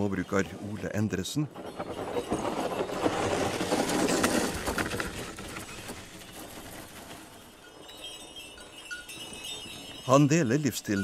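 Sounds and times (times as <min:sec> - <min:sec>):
horse-drawn implement rattling: 0:00.0 - 0:11.0.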